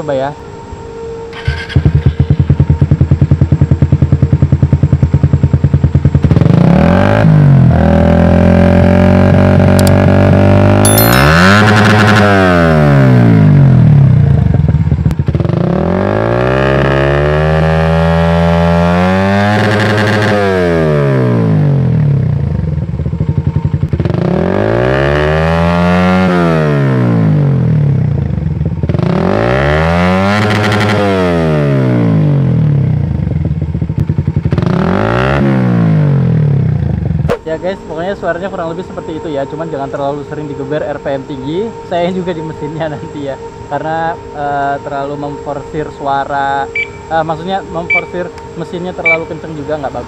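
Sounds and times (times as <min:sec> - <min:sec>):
motorcycle engine revving: 0:01.3 - 0:37.5, 0:44.6 - 0:50.0.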